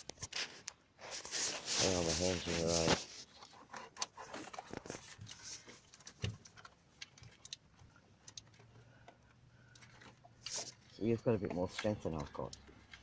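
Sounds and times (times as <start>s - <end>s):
clicks and rustles of plastic parts: 0.0s - 13.0s.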